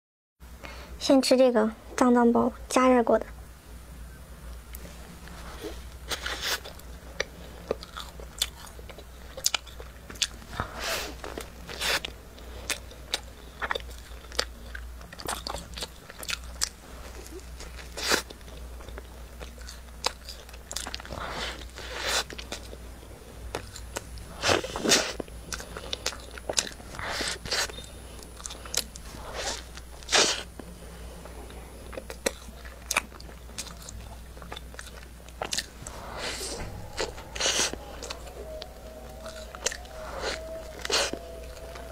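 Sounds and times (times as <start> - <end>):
biting and chewing pastry: 5.3 - 30.8, 31.5 - 41.9.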